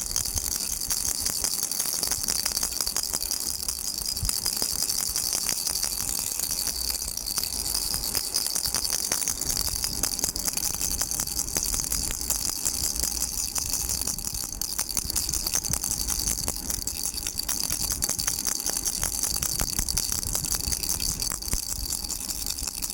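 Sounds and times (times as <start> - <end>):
baby rattle shaking: 0.0 - 22.9.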